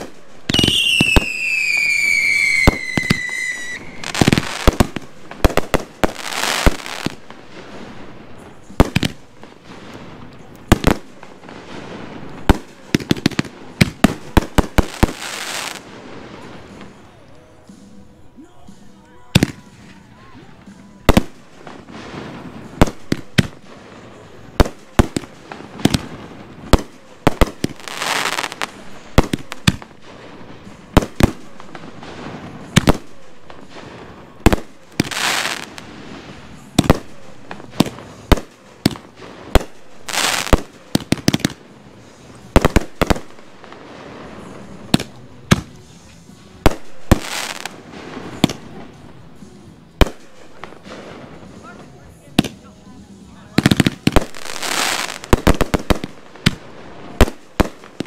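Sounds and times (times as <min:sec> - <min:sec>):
firework hiss: 0:00.0 - 0:17.0, 0:21.0 - 0:51.8, 0:53.5 - 0:58.0
firework bangs: 0:00.0 - 0:17.1, 0:19.3 - 0:52.8, 0:53.4 - 0:58.0.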